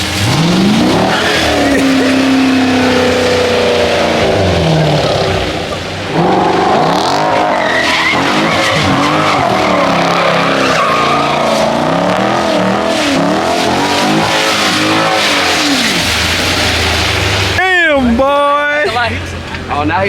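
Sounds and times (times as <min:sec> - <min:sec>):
car engine revving: 0:00.0 - 0:17.6
tyres spinning on wet pavement: 0:00.0 - 0:17.6.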